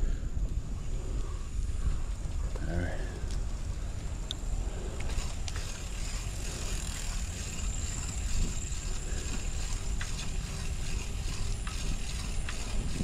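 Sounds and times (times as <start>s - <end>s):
wind and tyres rumbling: 0.0s - 13.0s
bicycle clicks and rattles: 1.2s - 13.0s.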